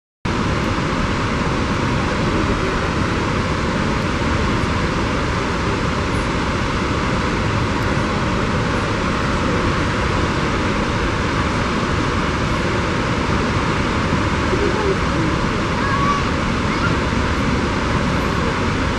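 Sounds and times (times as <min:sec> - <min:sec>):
waterfall rushing: 0:00.3 - 0:18.9.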